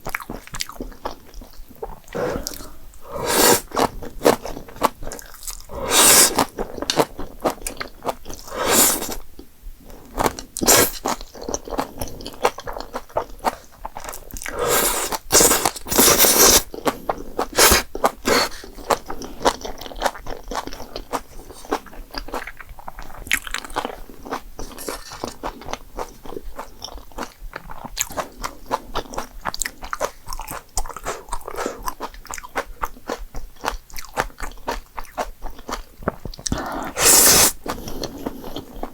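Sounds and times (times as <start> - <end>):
person chewing with wet crunching: 0.0 - 38.9.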